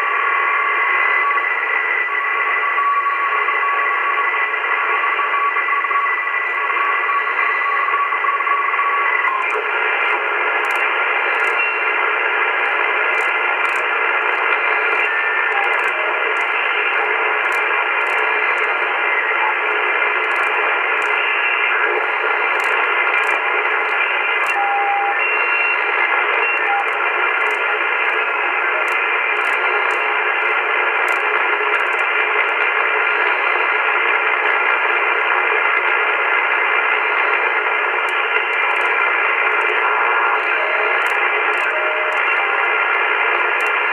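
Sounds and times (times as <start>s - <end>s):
shortwave radio hiss: 0.0s - 43.9s.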